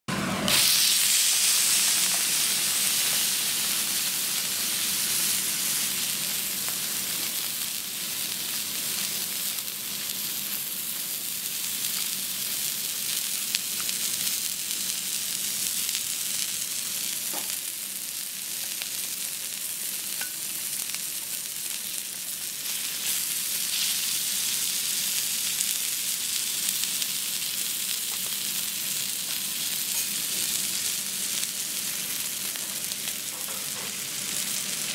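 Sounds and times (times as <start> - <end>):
steak sizzling on a griddle: 0.5 - 34.9.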